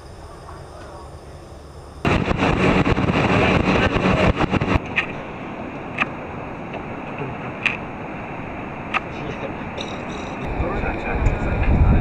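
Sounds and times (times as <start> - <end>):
motorboat engine and water rushing: 2.0 - 12.0
wind buffeting microphone: 2.0 - 12.0.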